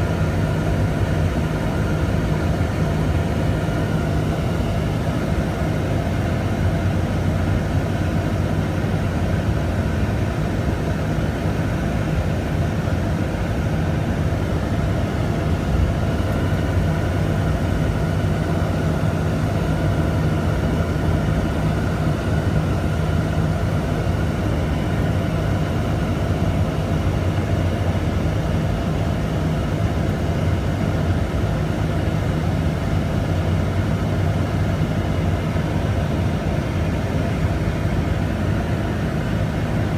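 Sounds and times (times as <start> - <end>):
steady engine drone: 0.0 - 39.9.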